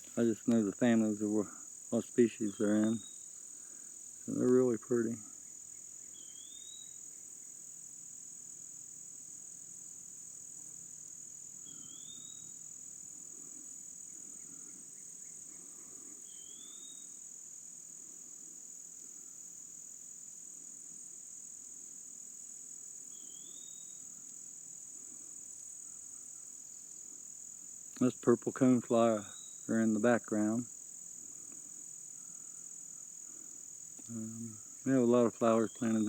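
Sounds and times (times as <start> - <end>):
insect chorus shrilling: 0.0 - 21.8, 22.6 - 36.0.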